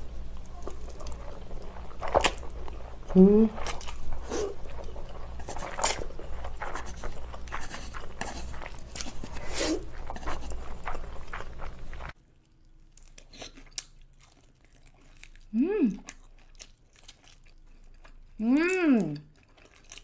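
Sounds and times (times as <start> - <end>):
slurping and chewing noodles: 0.0 - 20.0.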